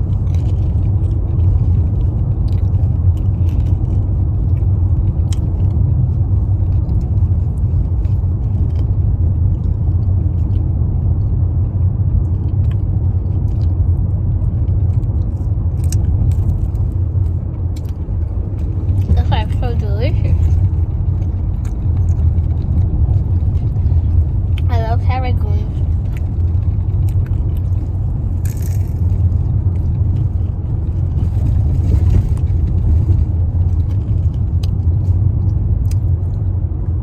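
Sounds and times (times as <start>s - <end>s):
road rumble inside car: 0.0s - 37.0s.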